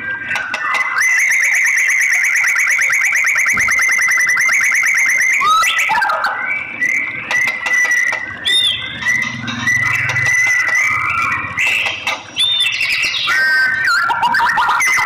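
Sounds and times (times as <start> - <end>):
songbird trilling and whistling: 0.2 - 15.0.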